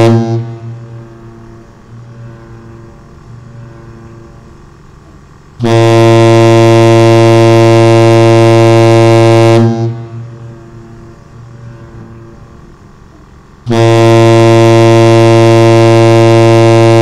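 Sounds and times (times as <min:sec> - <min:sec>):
deep air horn blast: 0:00.0 - 0:17.0
faint steady tone: 0:00.0 - 0:17.0.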